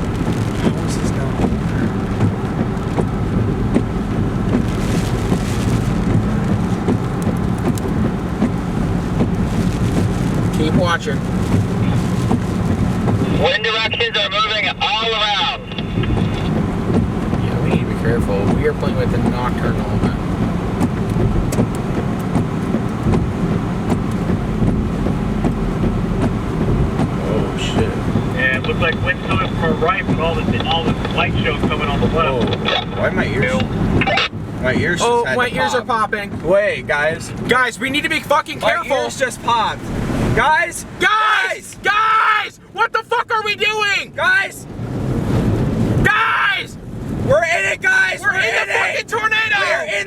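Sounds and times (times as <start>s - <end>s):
car engine and road rumble: 0.0s - 50.0s
rain ticking on car: 0.0s - 50.0s.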